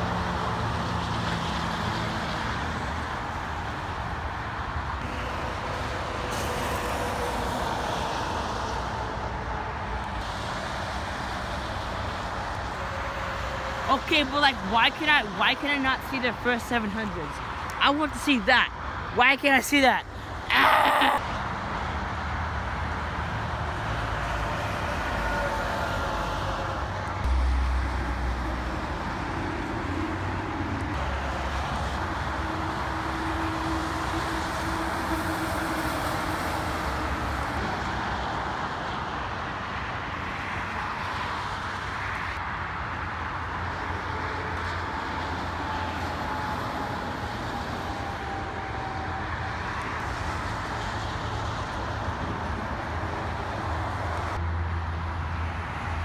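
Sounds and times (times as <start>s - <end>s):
highway traffic passing: 0.0s - 56.0s.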